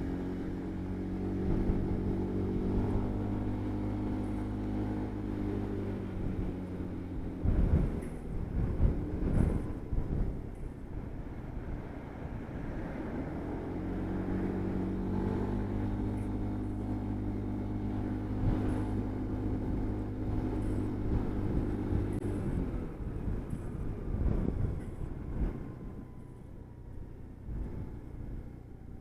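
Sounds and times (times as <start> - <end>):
road and wind noise: 0.0 - 29.0
vehicle engine hum: 0.0 - 29.0.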